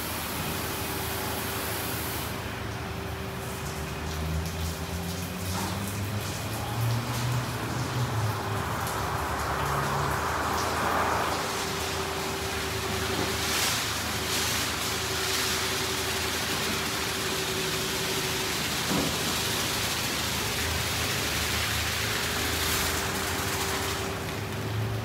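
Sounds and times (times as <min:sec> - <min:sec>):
car wash spraying water: 0:00.0 - 0:25.0.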